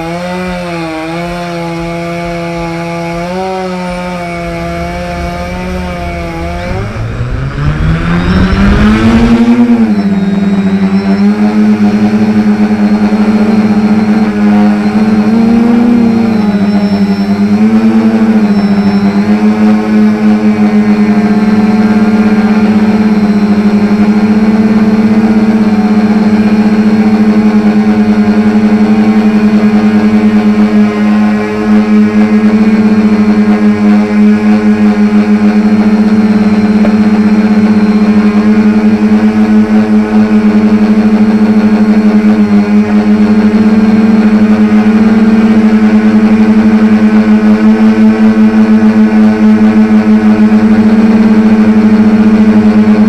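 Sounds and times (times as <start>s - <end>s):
drone propellers humming: 0.0s - 53.0s
quadcopter motors buzzing: 0.0s - 53.0s.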